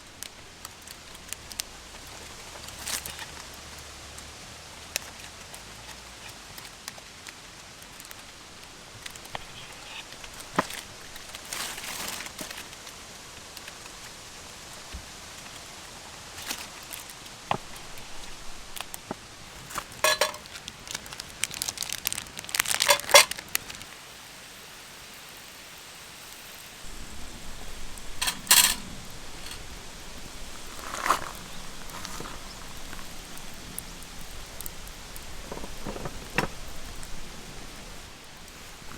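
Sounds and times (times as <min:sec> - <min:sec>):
crinkling and rustling: 0:00.0 - 0:23.9, 0:26.8 - 0:38.9.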